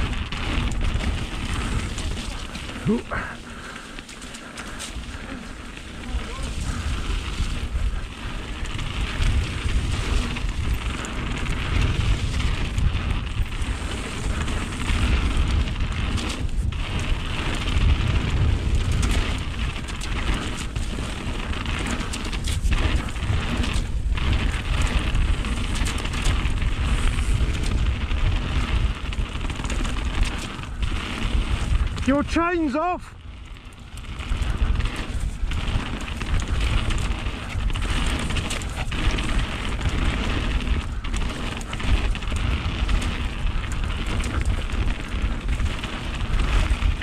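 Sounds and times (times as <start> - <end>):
tyres rolling on wet gravel: 0.0 - 47.0
wind buffeting microphone: 0.0 - 47.0.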